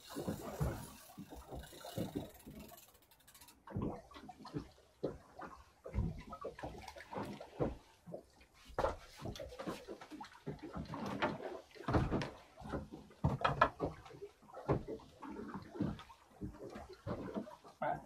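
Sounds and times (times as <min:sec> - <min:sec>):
water slapping against boat hull: 0:00.0 - 0:18.0.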